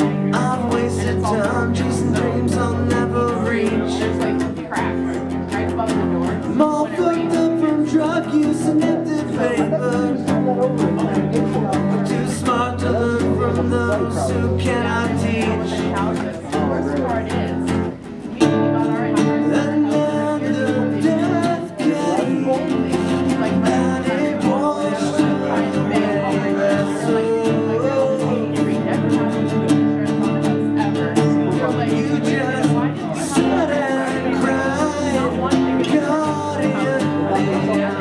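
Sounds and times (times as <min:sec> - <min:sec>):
acoustic guitars strummed: 0:00.0 - 0:38.0
man singing: 0:00.0 - 0:38.0.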